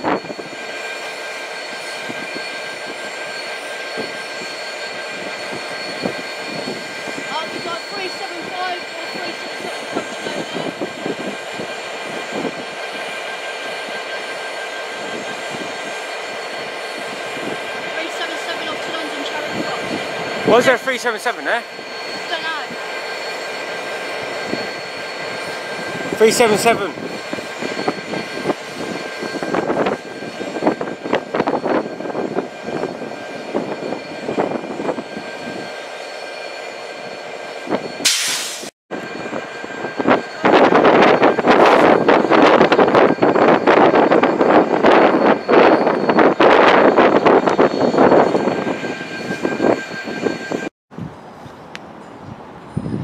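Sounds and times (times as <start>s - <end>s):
freight train clanking over rails: 0.0s - 50.7s.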